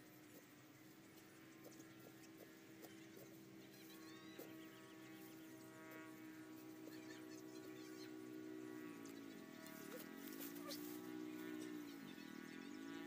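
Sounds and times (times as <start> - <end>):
steady humming drone: 0.0 - 13.0.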